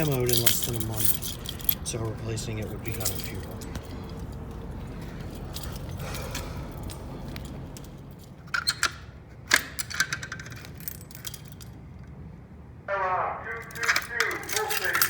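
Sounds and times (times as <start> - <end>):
sharp metallic clicks and clinks: 0.0 - 12.1, 13.6 - 15.0
steady low hum: 0.0 - 15.0.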